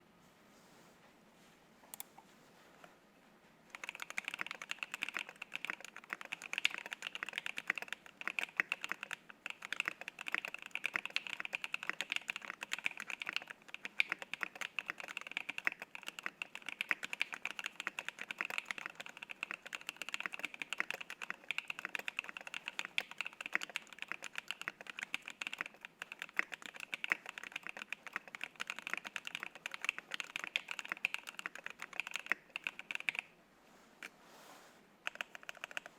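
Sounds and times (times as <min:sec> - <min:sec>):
mechanical keyboard typing: 0:03.7 - 0:33.3, 0:35.0 - 0:35.9.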